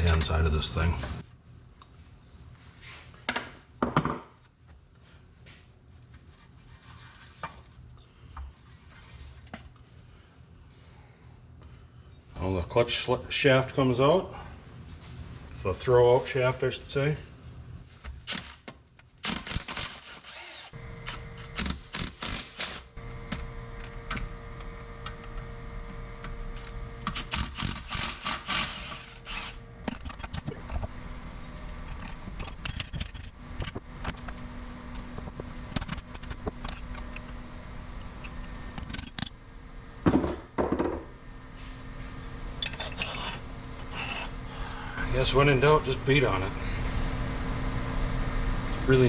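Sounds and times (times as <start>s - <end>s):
background hum: 4.6s - 49.0s.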